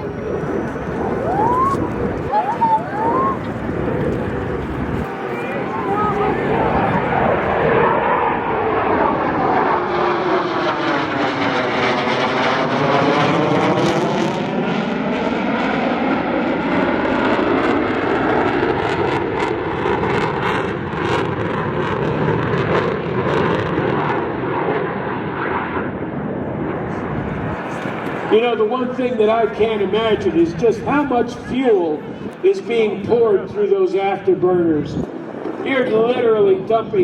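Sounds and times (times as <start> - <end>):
jet engines roaring past: 0.0 - 37.0.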